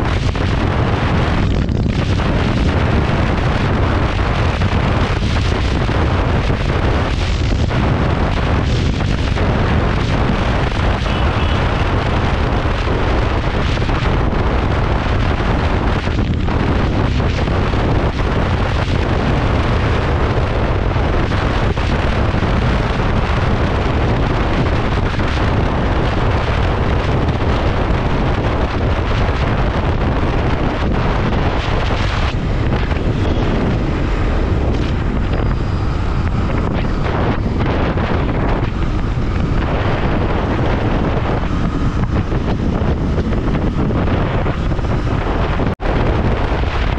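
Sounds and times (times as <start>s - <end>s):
motorcycle engine: 0.0s - 46.9s
wind buffeting on microphone: 0.0s - 46.9s.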